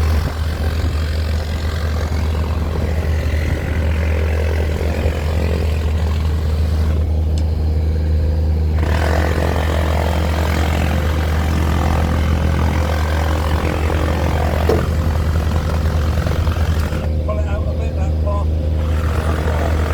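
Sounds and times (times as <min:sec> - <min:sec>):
engine humming: 0:00.0 - 0:19.9.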